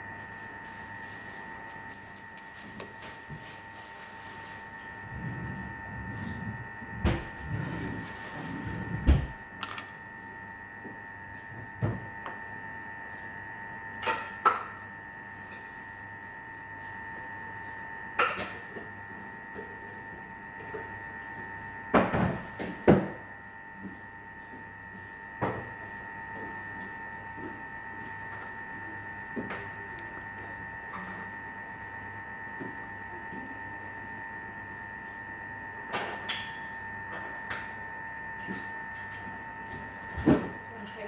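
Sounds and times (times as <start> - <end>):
steady high hum: 0.0 - 41.0.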